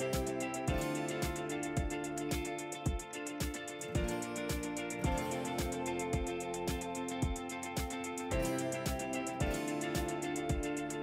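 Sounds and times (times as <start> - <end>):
kick drum beat: 0.1 - 10.9.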